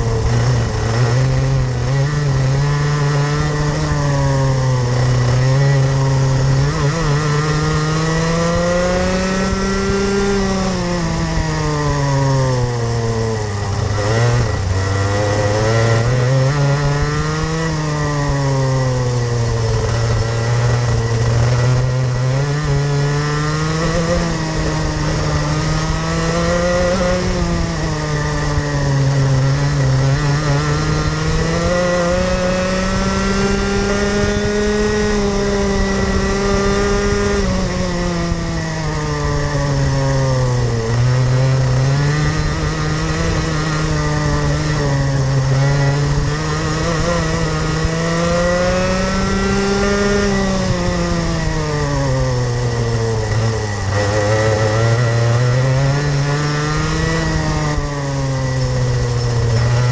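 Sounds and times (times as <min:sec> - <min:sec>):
kart engine at speed: 0:00.0 - 0:59.9.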